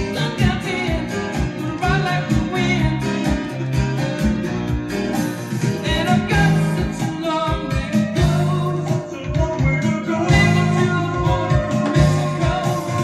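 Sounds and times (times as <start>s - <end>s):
song with singing and guitar: 0.0s - 13.0s.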